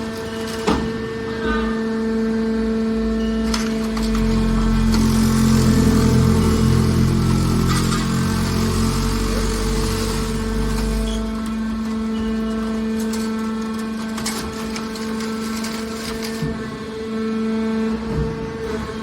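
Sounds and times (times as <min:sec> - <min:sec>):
hydraulic unit humming: 0:00.0 - 0:19.0.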